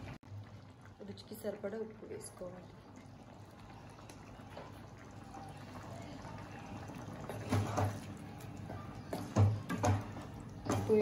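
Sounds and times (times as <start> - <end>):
gravy simmering in a pan: 0.0 - 11.0.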